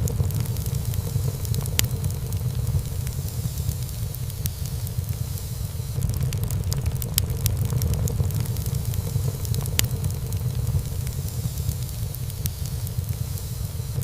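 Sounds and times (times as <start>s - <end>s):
low rumble of flame: 0.0s - 14.0s
wood crackling and popping: 0.0s - 14.0s.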